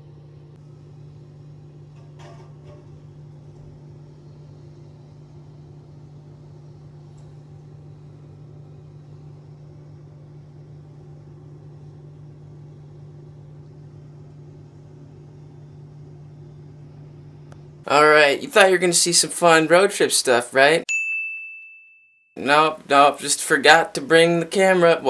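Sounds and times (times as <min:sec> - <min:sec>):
low mechanical hum: 0:00.0 - 0:20.8, 0:22.4 - 0:25.0.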